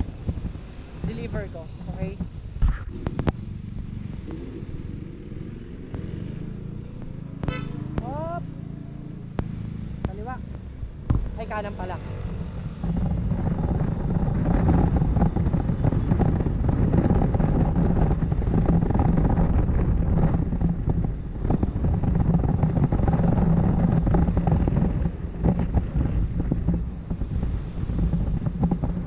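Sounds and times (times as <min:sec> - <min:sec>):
scooter engine running: 0:00.0 - 0:29.0
wind buffeting microphone: 0:00.0 - 0:29.0.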